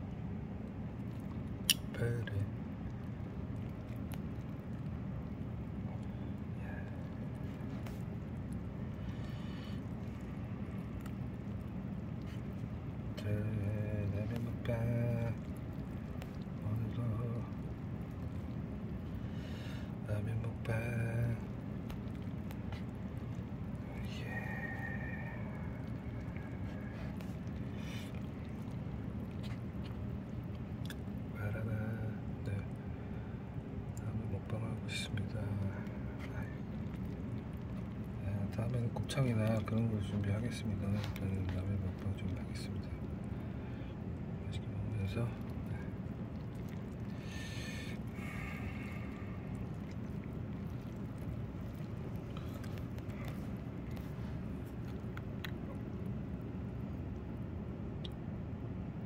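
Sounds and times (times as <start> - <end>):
low background rumble: 0.0 - 59.0
steady low hum: 0.0 - 59.0.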